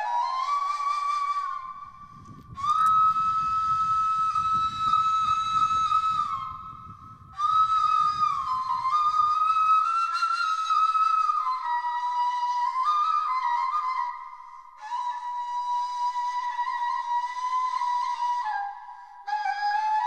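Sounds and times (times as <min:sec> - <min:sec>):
solo flute melody: 0:00.0 - 0:20.0.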